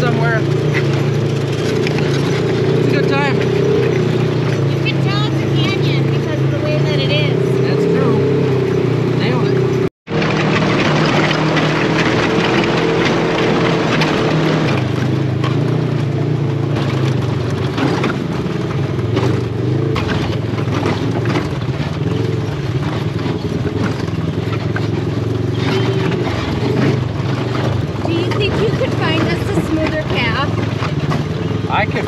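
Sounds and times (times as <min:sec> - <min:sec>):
knocks and rattles: 0:00.0 - 0:07.4, 0:09.6 - 0:32.0
off-road vehicle engine running: 0:00.0 - 0:32.0.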